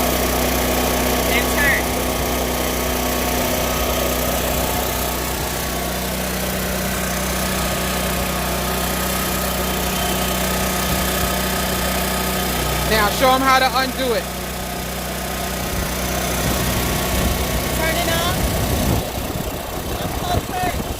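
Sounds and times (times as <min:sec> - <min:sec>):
generator running: 0:00.0 - 0:20.9.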